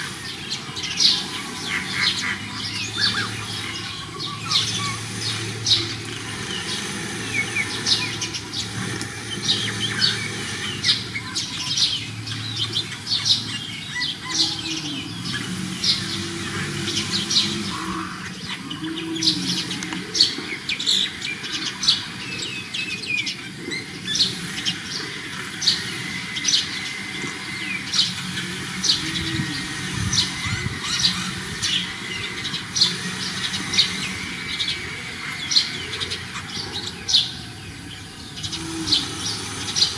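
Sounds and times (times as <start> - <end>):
birds chirping: 0.0 - 39.9
lower bird calls: 0.0 - 39.9.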